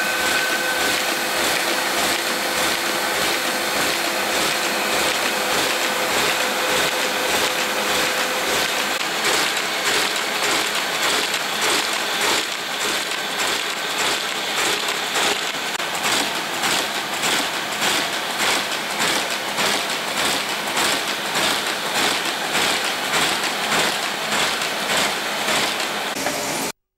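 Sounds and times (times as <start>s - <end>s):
machine rollers whirring: 0.0s - 26.7s
regular machine clatter: 0.3s - 26.0s.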